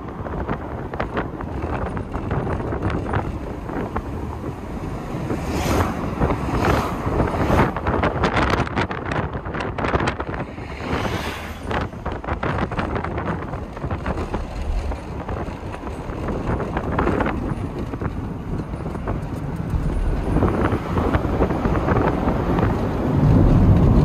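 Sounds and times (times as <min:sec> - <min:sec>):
car and tyres rumbling on road: 0:00.0 - 0:24.0
wind buffeting microphone: 0:00.0 - 0:24.0.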